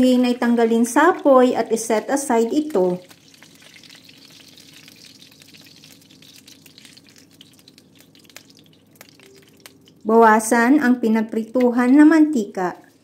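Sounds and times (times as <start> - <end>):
oil popping and crackling: 0.0 - 10.5
oil sizzling in a pan: 0.0 - 10.5.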